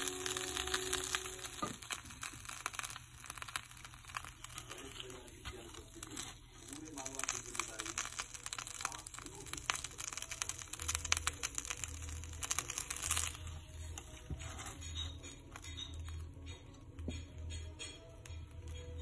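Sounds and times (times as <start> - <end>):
bread sizzling in oil: 0.0 - 16.5.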